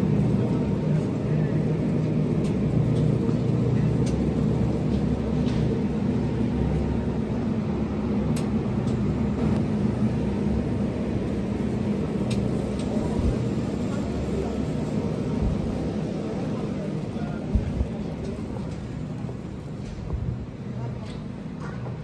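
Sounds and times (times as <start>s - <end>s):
refrigerated display cases humming: 0.0s - 22.0s.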